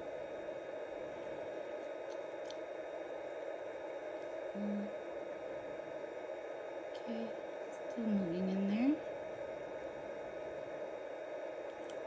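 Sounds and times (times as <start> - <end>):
room tone hum and hiss: 0.0 - 12.0.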